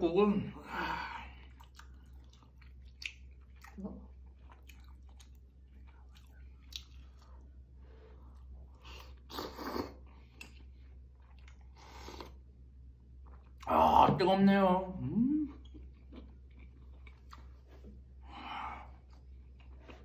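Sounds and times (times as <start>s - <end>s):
soft chewing: 1.2s - 13.7s, 15.4s - 18.2s, 18.8s - 20.0s.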